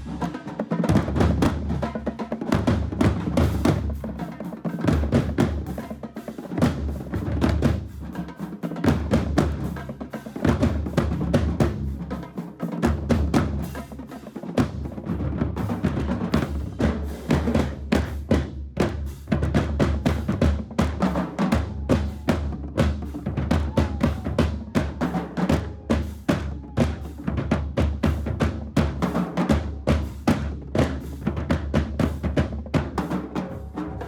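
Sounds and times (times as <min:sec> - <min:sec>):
rapid snare drum strokes: 0:00.0 - 0:34.0.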